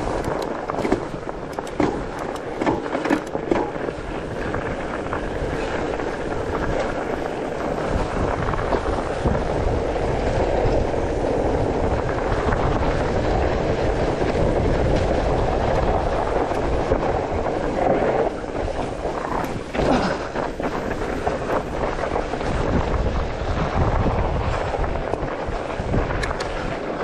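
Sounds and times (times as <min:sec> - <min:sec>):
bike rattling over bumps: 0:00.0 - 0:27.0
bike tyres rumbling on ground: 0:00.0 - 0:27.0.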